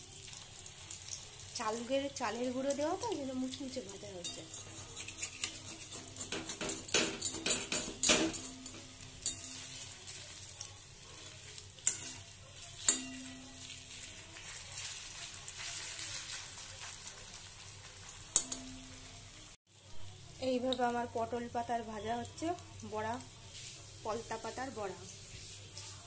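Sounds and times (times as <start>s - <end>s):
fritters sizzling in oil: 0.0s - 26.0s.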